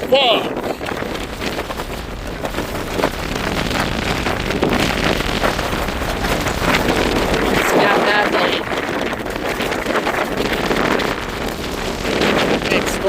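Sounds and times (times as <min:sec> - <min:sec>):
storm wind buffeting microphone: 0:00.0 - 0:13.0
tent flapping and crackling: 0:00.0 - 0:13.0.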